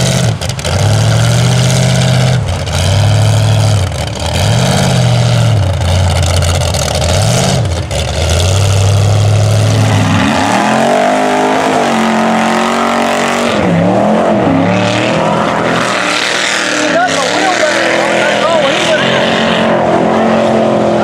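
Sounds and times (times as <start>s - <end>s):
tires churning through mud: 0.0s - 21.0s
truck engines revving: 0.0s - 21.0s.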